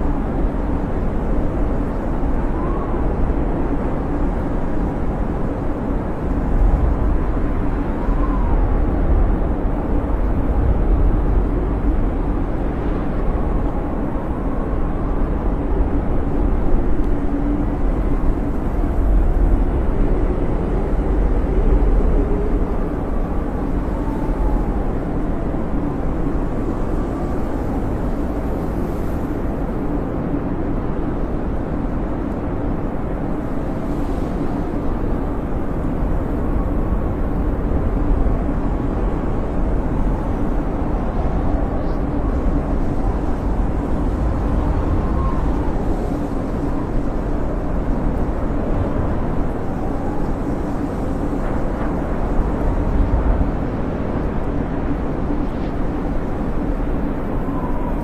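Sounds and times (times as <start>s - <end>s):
blizzard wind with deep rumble: 0.0s - 58.0s
faint wind whistling: 0.0s - 58.0s.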